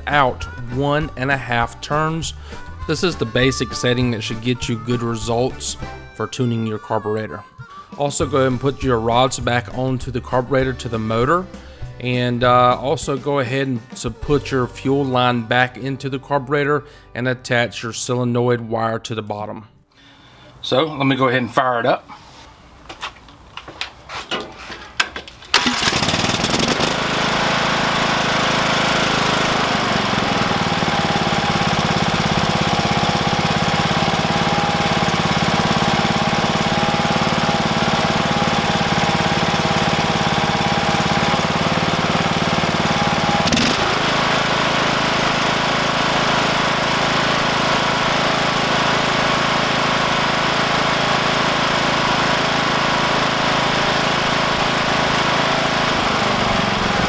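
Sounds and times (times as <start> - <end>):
mower engine starting and running: 0.0 - 16.3, 23.3 - 57.0.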